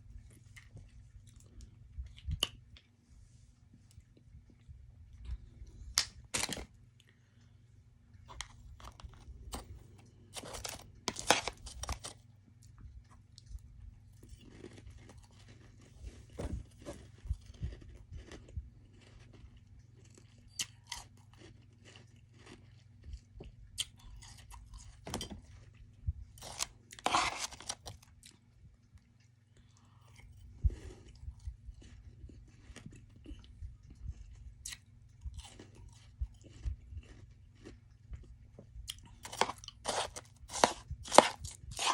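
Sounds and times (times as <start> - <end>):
chewing and crunching frost: 0.0 - 3.0, 3.8 - 41.9
steady low hum: 0.0 - 41.9.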